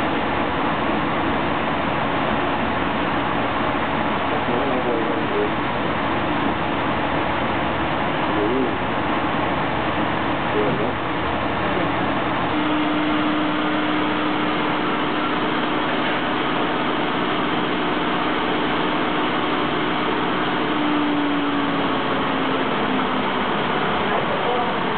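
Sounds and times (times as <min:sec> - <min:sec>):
steady whine: 0:00.0 - 0:24.9
washing machine spinning: 0:00.0 - 0:24.9.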